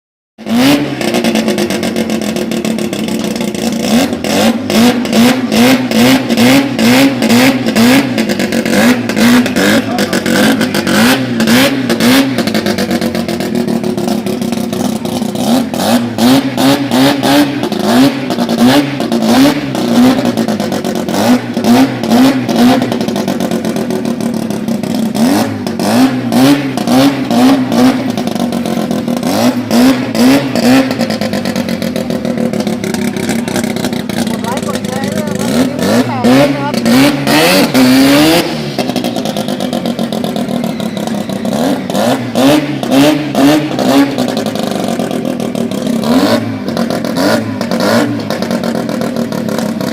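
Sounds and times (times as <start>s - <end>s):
exhaust crackling: 0.4s - 49.9s
rotary engine revving: 0.4s - 49.9s.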